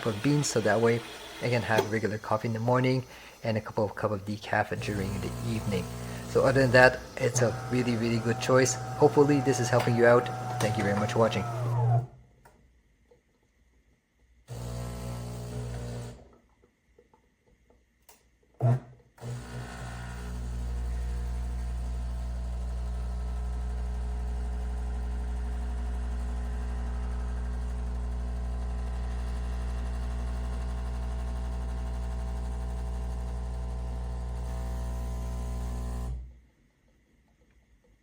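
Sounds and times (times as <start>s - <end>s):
espresso machine motor hum: 0.0s - 12.0s, 14.5s - 16.1s, 19.2s - 36.2s.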